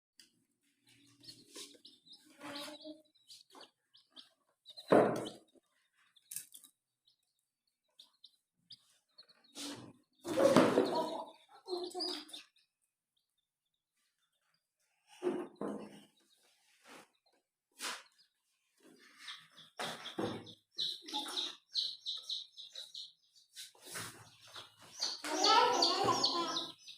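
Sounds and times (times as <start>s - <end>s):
baby chicks peeping: 0.6s - 13.4s, 14.0s - 26.9s.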